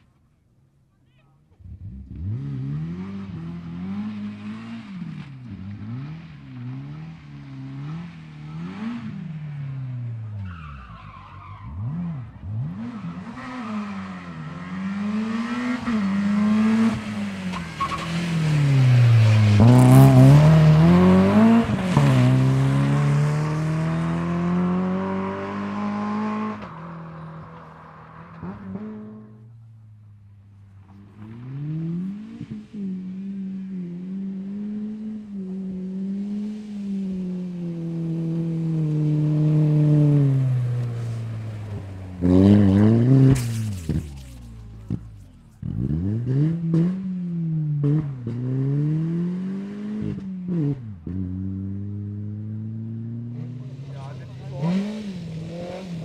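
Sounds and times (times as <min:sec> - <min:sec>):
rally car engines revving: 0:01.5 - 0:56.0
car passing close: 0:01.6 - 0:47.0, 0:47.6 - 0:56.0.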